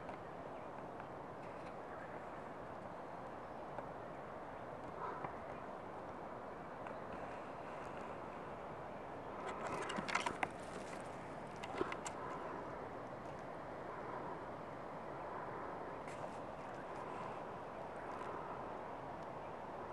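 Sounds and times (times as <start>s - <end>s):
outdoor background noise: 0.0s - 19.9s.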